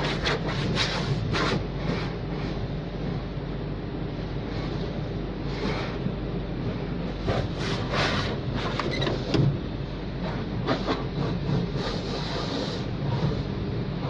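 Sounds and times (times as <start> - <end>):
car wash machinery: 0.0 - 14.0.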